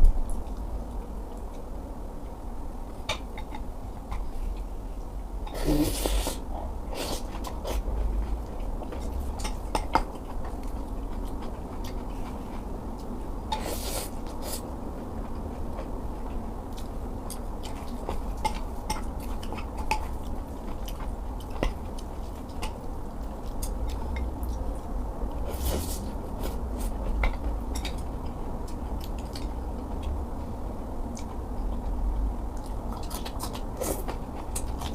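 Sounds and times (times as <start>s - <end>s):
chewing: 0.2s - 2.4s, 3.1s - 34.9s.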